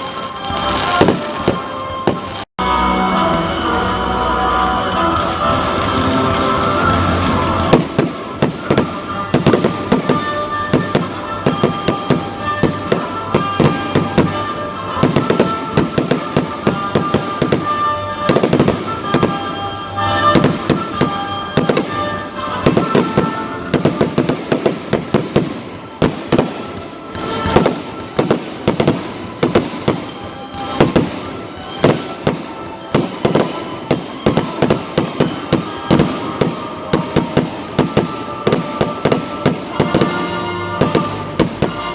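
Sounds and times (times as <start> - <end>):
fireworks exploding: 0.0 - 41.9.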